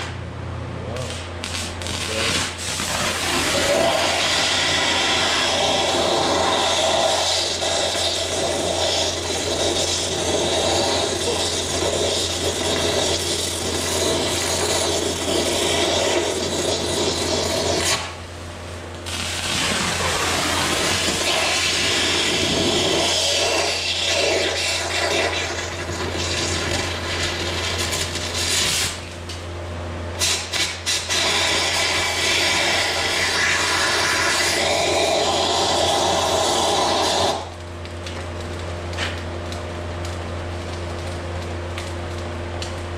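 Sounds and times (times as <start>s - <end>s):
cutting rod burning with loud hiss: 0.0s - 0.2s, 1.0s - 29.4s, 30.1s - 37.6s.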